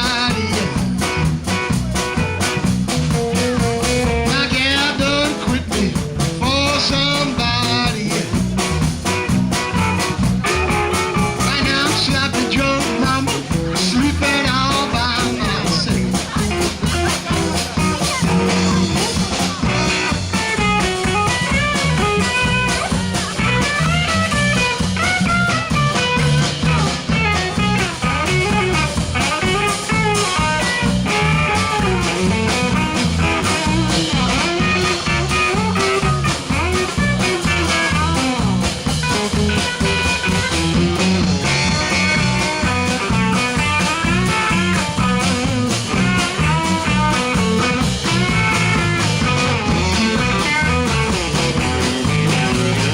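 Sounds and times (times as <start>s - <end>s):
bending lead guitar line: 0.0s - 52.9s
live blues band playing: 0.0s - 52.9s.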